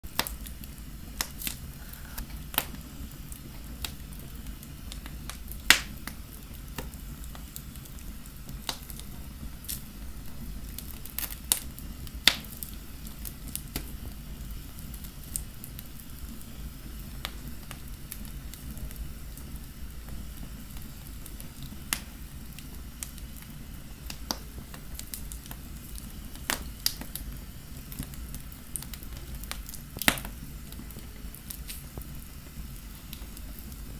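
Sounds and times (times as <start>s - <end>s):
fireplace fire crackling: 0.0s - 33.9s.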